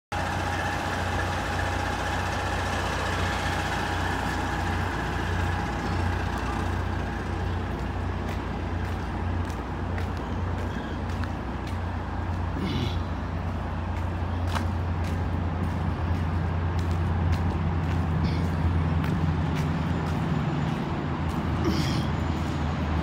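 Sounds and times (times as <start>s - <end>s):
diesel truck engine idling: 0.1s - 23.0s.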